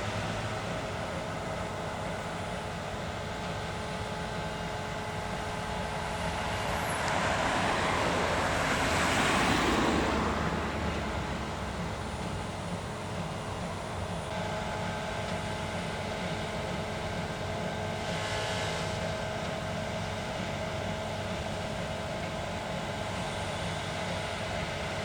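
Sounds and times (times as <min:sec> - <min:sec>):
diesel farm machinery running: 0:00.0 - 0:25.0.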